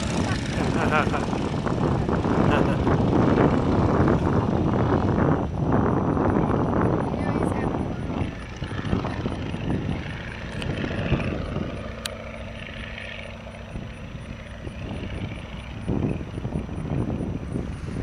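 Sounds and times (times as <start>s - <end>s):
biplane engine droning: 0.0s - 18.0s
wind on microphone: 0.0s - 18.0s.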